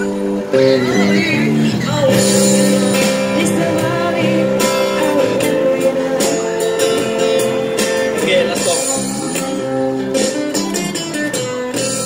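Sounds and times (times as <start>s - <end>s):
person singing into microphone: 0.0s - 10.4s
guitar chords: 0.0s - 12.0s
drums and cymbals: 2.0s - 12.0s.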